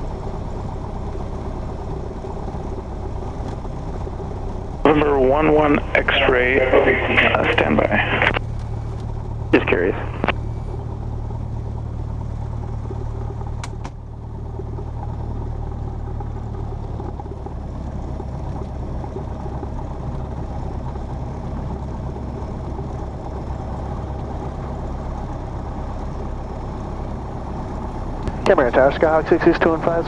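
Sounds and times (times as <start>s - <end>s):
airplane engine running: 0.0s - 30.0s
propeller hum: 0.0s - 30.0s.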